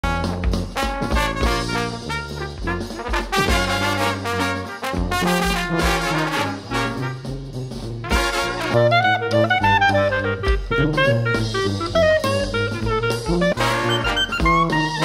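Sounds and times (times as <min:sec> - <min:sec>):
brass-led instrumental music: 0:00.0 - 0:15.0.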